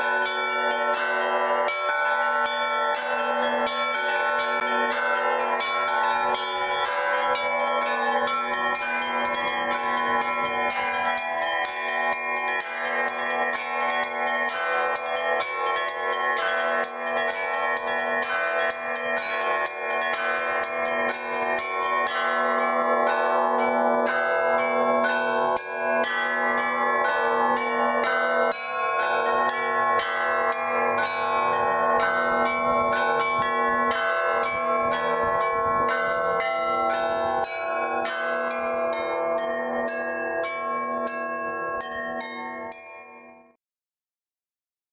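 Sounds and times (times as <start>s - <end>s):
large low bell strokes: 0.0s - 43.0s
small church bells ringing: 0.0s - 43.6s.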